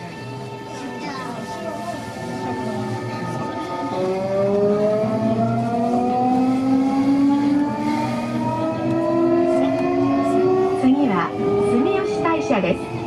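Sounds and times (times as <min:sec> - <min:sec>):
train rumble: 0:00.0 - 0:13.0
train traction motors whining: 0:00.0 - 0:13.0.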